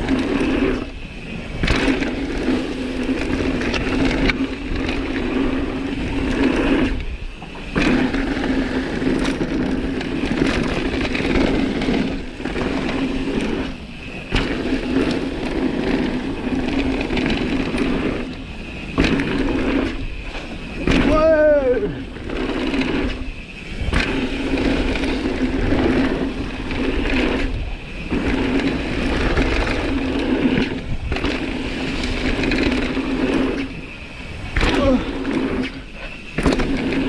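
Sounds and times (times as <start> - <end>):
bicycle freehub buzzing: 0.0 - 37.0
tyre rumble: 0.0 - 37.0.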